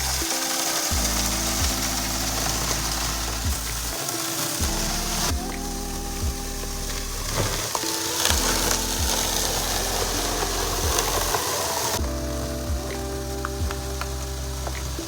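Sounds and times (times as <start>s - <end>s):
background music with sustained notes: 0.0s - 15.0s
low bass beat: 0.0s - 15.0s.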